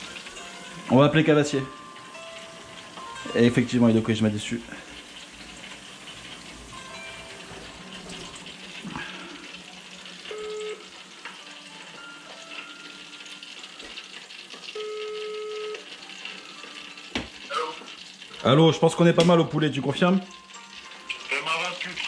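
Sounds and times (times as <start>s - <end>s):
faint music: 0.0s - 22.0s
oil sizzling in fryer: 0.0s - 22.0s.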